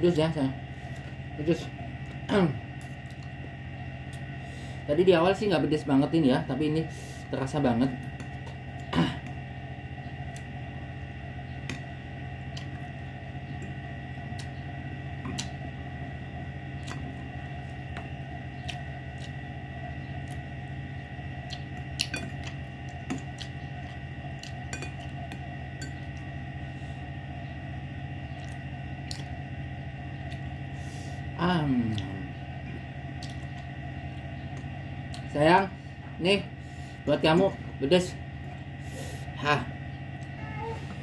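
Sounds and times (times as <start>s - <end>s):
steady hum with high whine: 0.0s - 41.0s.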